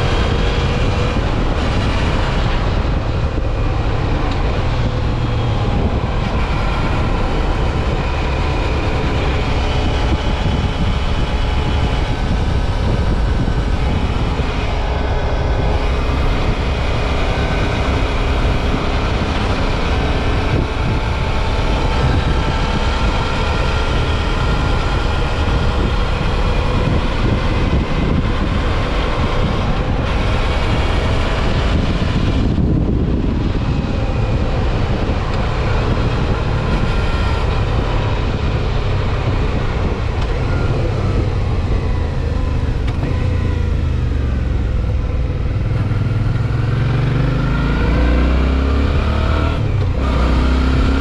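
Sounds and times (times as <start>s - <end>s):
motorcycle engine running: 0.0s - 51.0s
wind rumble on microphone: 0.0s - 51.0s.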